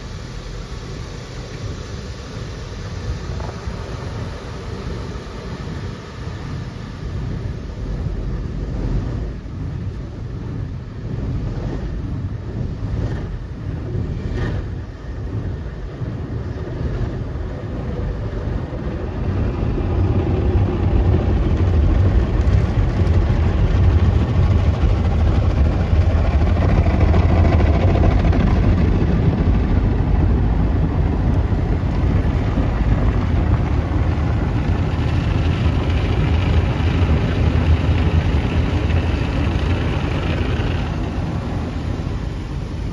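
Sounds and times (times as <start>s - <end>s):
car wash machinery running: 0.0s - 42.9s.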